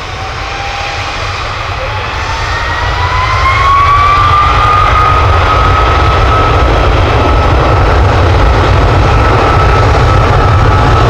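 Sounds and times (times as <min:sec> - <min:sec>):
jet engines whining: 0:00.0 - 0:11.0.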